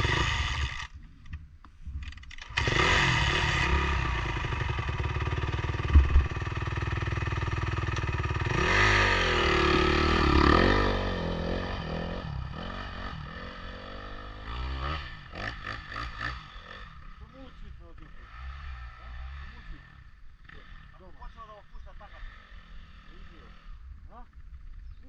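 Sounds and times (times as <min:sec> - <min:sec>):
dirt bike engine revving: 0:00.0 - 0:00.9, 0:02.3 - 0:24.9.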